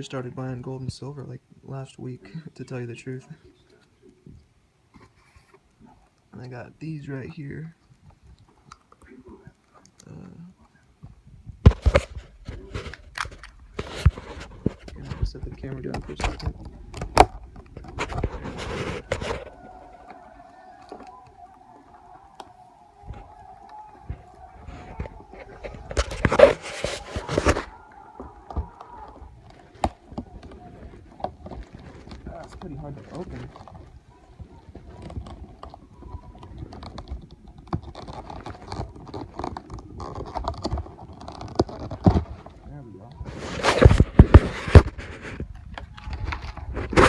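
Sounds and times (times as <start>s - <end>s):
faint steady hum: 0.0s - 43.3s
camera handling rustle and clatter: 7.8s - 47.0s.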